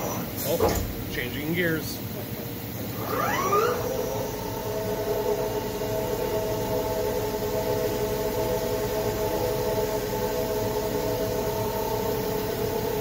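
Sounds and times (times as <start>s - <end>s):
machine spindle whine: 0.0s - 13.0s
mechanical hum: 0.0s - 13.0s.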